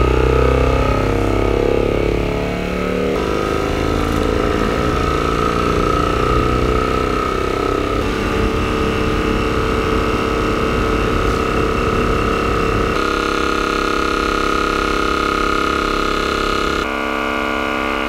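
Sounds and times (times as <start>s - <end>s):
deep buzzing bass from speaker: 0.0s - 18.0s.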